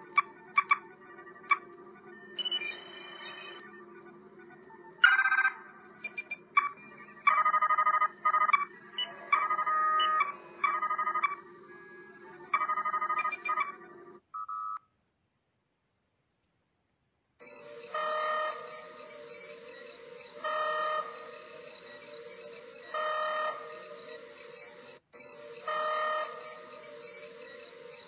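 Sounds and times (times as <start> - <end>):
electronic trills and beeps: 0.0 - 14.2, 17.4 - 28.0.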